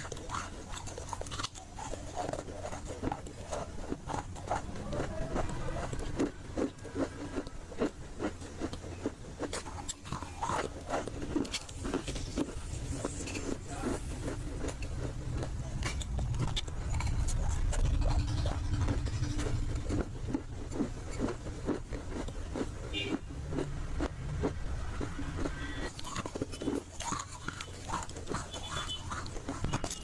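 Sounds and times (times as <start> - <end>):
clay being crunched and chewed: 0.0 - 18.5, 19.4 - 30.0
low background hum: 0.0 - 30.0.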